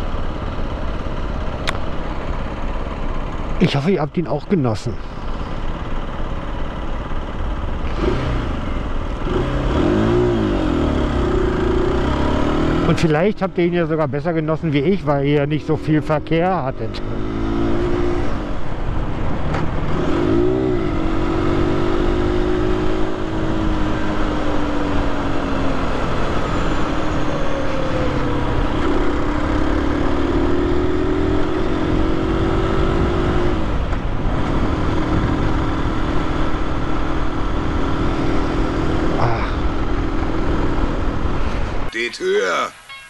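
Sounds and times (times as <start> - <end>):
motorcycle engine accelerating: 5.2 - 41.9.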